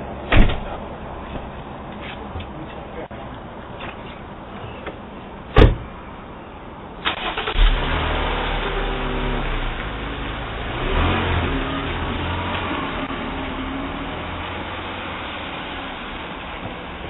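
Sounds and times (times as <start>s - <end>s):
truck engine starting and running: 3.3s - 17.0s.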